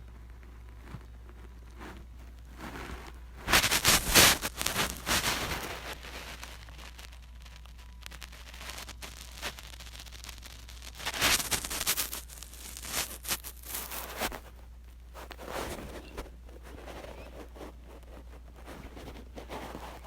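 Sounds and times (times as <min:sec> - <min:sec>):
rustling and scraping: 0:00.0 - 0:07.2, 0:10.8 - 0:20.0
steady low hum: 0:00.0 - 0:20.0.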